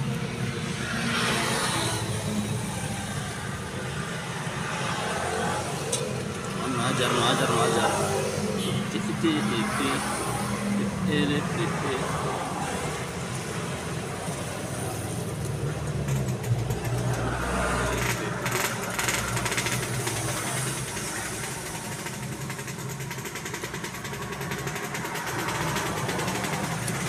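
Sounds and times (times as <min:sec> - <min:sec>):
engine running with low hum: 0:00.0 - 0:27.0.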